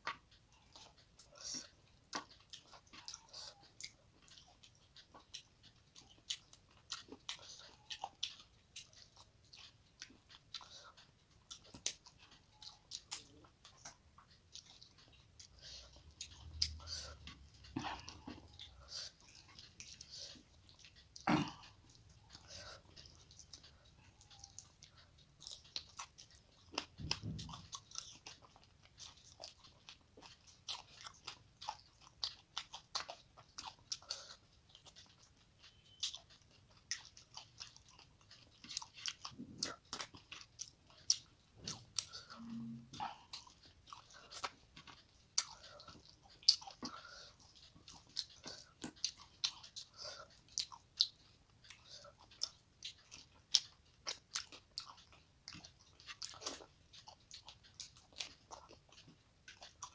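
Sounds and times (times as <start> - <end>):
mouth clicks and smacks: 0.0 - 59.9
wet chewing: 0.0 - 59.9.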